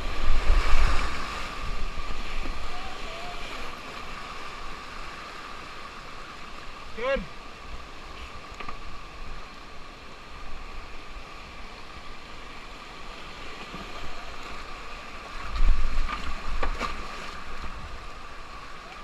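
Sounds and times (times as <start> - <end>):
whitewater river rushing: 0.0 - 19.0.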